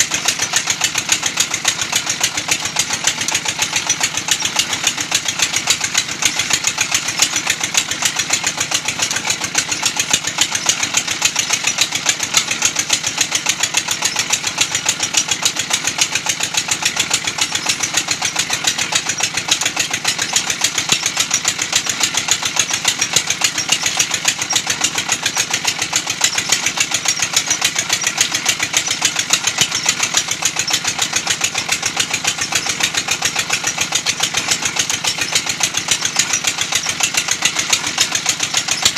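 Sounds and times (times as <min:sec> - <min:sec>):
machine knocking rhythmically: 0:00.0 - 0:38.9.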